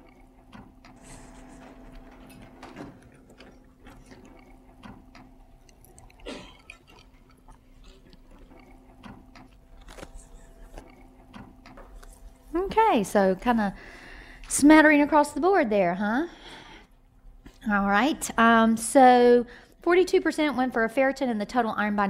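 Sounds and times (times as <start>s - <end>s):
faint steady hum: 0.0s - 21.8s.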